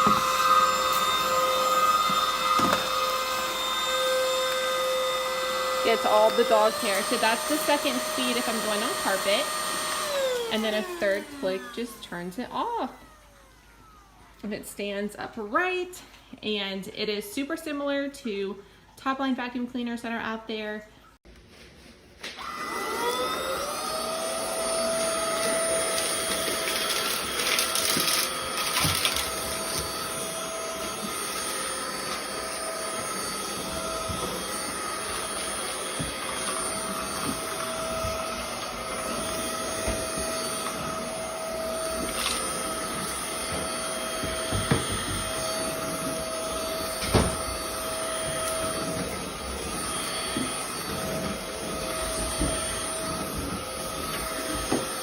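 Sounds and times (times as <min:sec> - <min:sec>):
vacuum motor whining: 0:00.0 - 0:14.4, 0:22.2 - 0:55.0.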